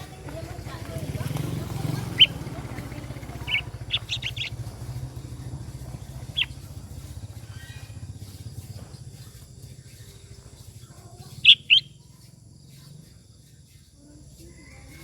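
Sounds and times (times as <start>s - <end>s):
low steady rumble: 0.0s - 13.3s
bird chirping: 1.2s - 15.0s.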